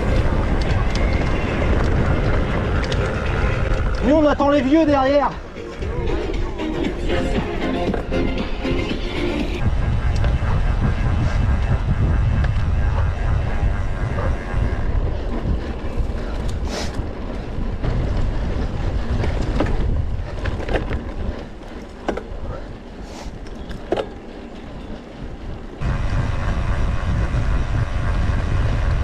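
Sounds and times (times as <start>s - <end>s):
bike clicks and rattles: 0.0s - 6.3s, 9.4s - 29.0s
wind buffeting microphone: 0.0s - 29.0s.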